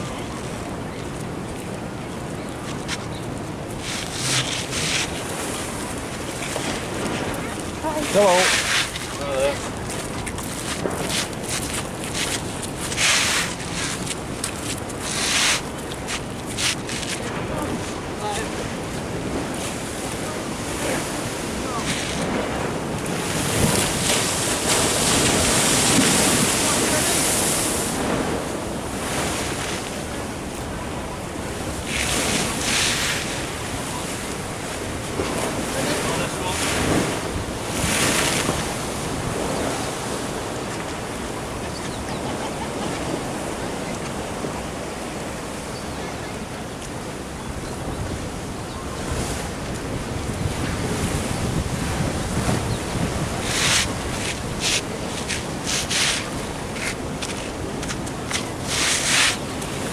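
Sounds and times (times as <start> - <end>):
ocean waves washing: 0.0 - 59.9
wind on microphone: 0.0 - 59.9.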